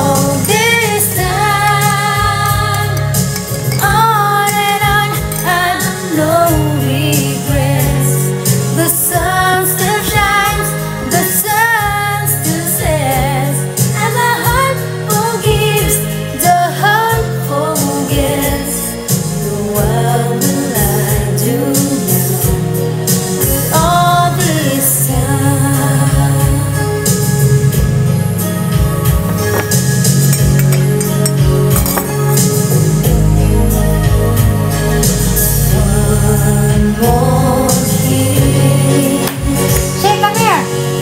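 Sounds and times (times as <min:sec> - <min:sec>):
woman singing: 0:00.0 - 0:27.4, 0:35.3 - 0:41.0
instrumental backing with bass: 0:00.0 - 0:41.0.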